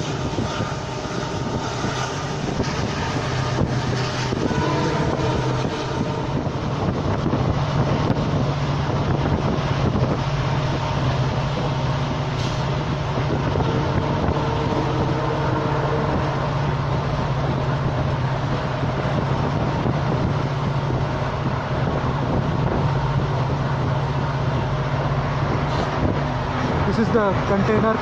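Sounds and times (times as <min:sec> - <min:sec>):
train rumbling on rails: 0:00.0 - 0:28.0
wind noise: 0:00.0 - 0:28.0.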